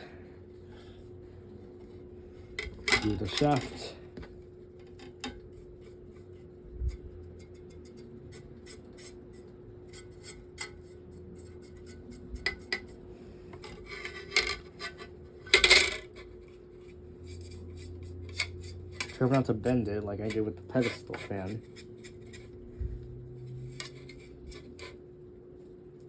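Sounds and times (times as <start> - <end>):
brush scrubbing metal fan blades: 0.6 - 26.0.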